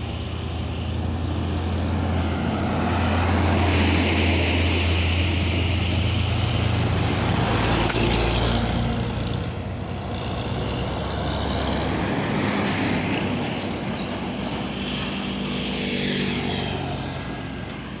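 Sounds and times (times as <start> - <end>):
diesel trucks passing: 0.0 - 18.0.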